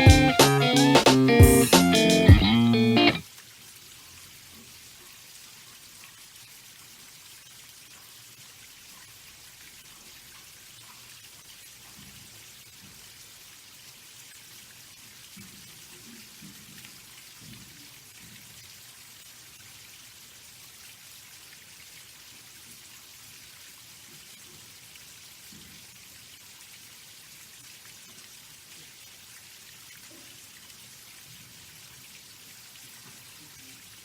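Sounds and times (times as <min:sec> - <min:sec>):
water falling onto pond: 0:00.0 - 0:34.0.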